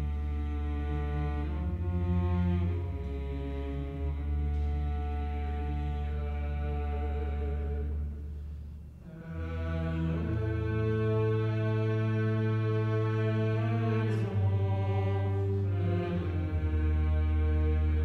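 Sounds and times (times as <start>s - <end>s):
string quartet: 0.0s - 18.0s.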